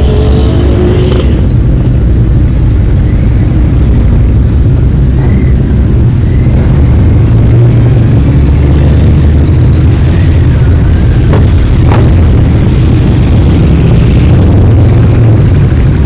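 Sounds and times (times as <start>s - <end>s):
motorcycle engine revving: 0.0s - 2.0s, 4.7s - 16.0s.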